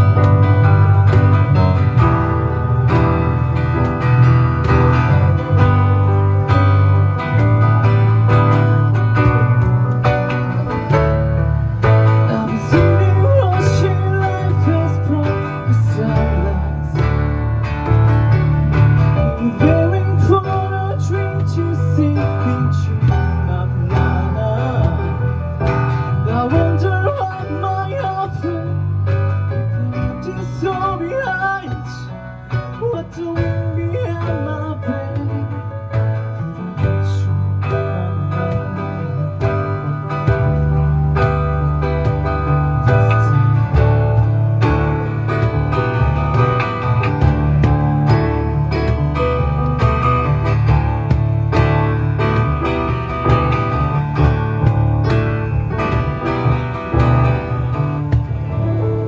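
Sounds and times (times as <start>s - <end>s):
bass notes: 0.0s - 59.0s
bending melody line: 0.0s - 59.0s
keyboard: 0.0s - 59.0s
live pop-rock band instrumental: 0.0s - 59.0s
strummed acoustic guitar: 0.0s - 59.0s.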